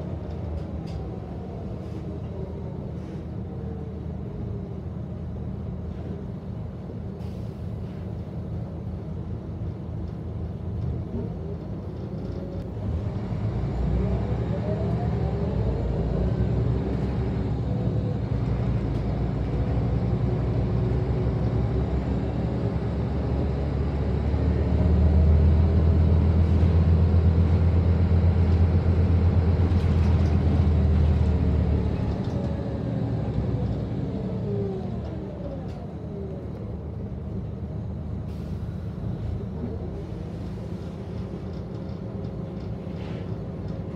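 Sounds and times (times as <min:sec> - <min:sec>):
bus diesel engine accelerating: 0:00.0 - 0:43.9.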